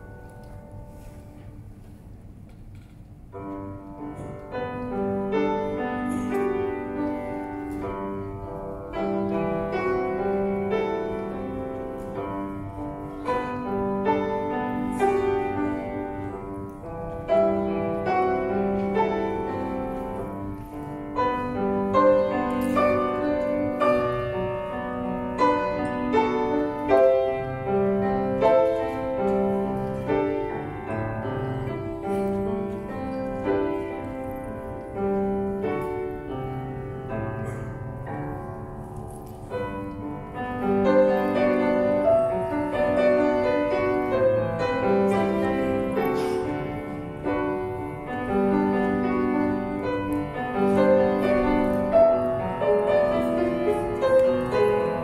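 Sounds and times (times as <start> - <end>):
solo grand piano piece: 0.0 - 55.0.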